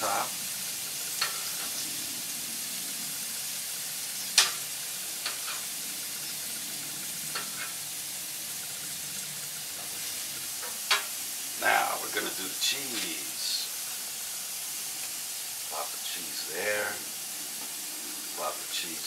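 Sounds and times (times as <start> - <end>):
meat and onions sizzling on griddle: 0.0 - 19.0.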